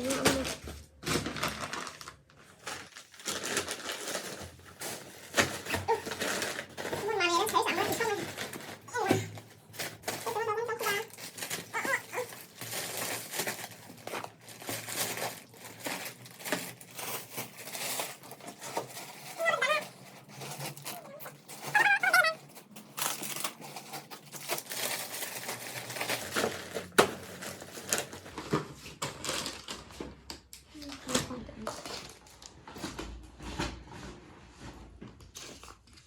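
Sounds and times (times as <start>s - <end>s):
packaging crinkling and rustling: 0.0s - 34.0s.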